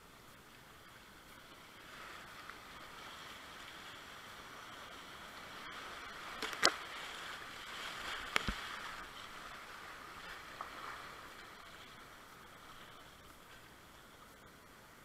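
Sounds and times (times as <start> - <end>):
whitewater rushing: 1.0 - 15.0.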